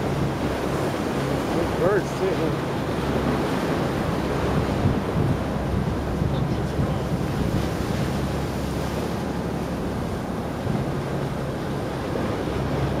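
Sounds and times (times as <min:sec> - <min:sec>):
boat engine humming: 0:00.0 - 0:13.0
ocean waves washing: 0:00.0 - 0:13.0
wind buffeting microphone: 0:00.0 - 0:13.0.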